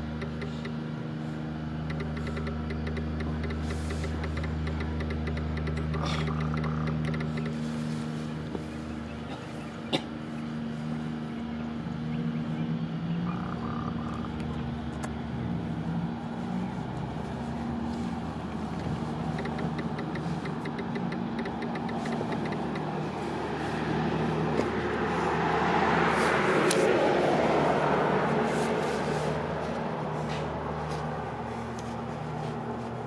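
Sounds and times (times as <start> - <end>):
machinery engine humming: 0.0 - 33.0.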